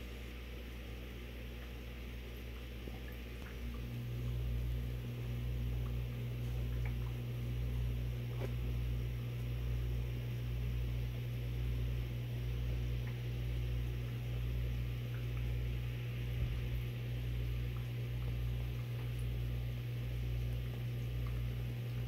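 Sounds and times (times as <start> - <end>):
aquarium pump humming: 0.0 - 22.0.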